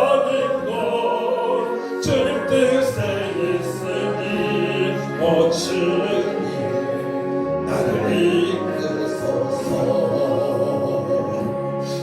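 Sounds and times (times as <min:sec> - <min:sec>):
person singing worship song: 0:00.0 - 0:12.0.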